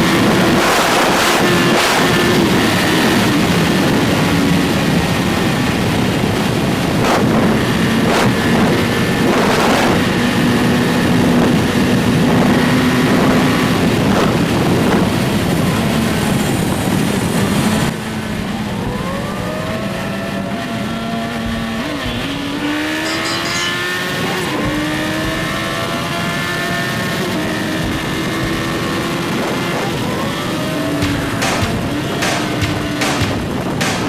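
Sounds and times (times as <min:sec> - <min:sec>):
motorcycle engine accelerating: 0:00.0 - 0:34.0
wind and road noise: 0:00.0 - 0:34.0.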